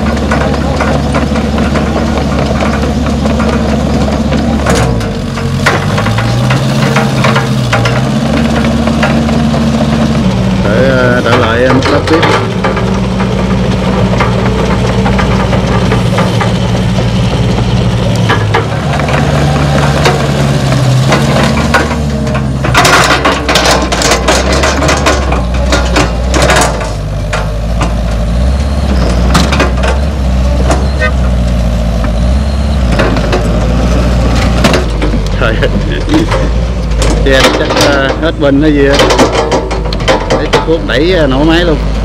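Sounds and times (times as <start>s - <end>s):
clattering and knocks: 0.0s - 42.0s
excavator diesel engine running: 0.0s - 42.0s.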